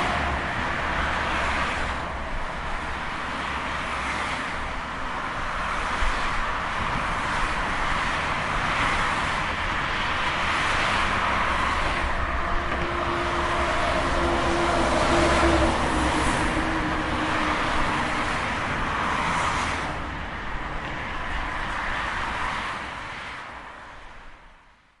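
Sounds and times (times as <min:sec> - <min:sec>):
trucks passing on highway: 0:00.0 - 0:25.0.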